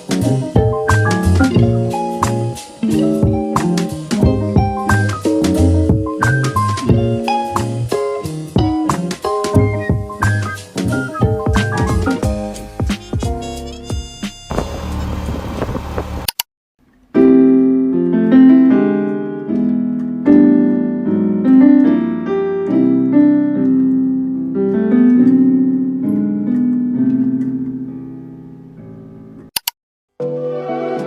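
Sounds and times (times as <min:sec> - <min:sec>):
solo piano melody: 0:00.0 - 0:13.8, 0:17.1 - 0:29.5.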